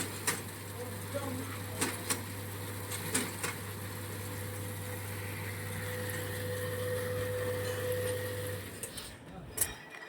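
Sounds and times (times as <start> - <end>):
small machine humming and whining: 0.6 - 9.1.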